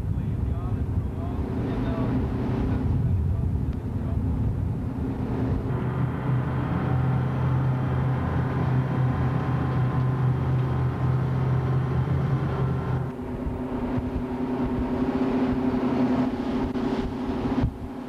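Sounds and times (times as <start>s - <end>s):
boat engine drone: 0.0s - 18.0s
wind and wake rushing: 0.0s - 18.0s.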